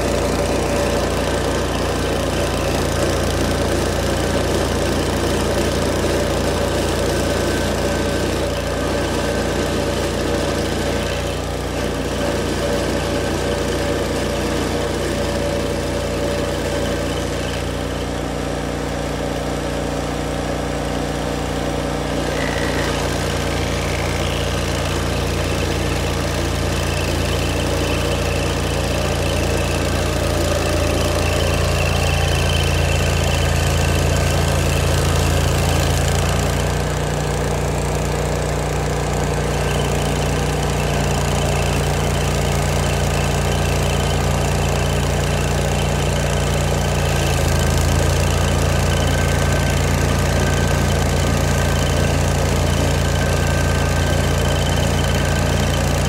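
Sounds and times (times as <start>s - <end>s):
stump grinder engine running: 0.0s - 56.0s.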